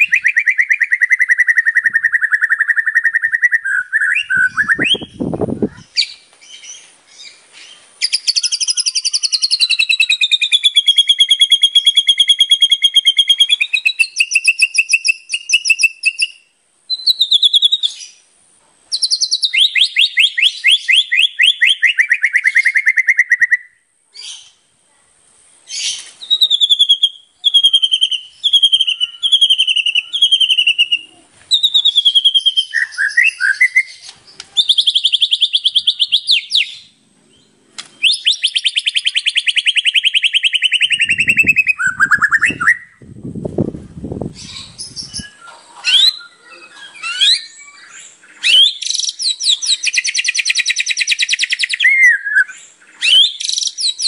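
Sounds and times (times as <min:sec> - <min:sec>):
bird singing trills and whistles: 0:00.0 - 0:18.2, 0:18.9 - 0:24.6, 0:25.7 - 0:43.1, 0:44.3 - 0:54.0.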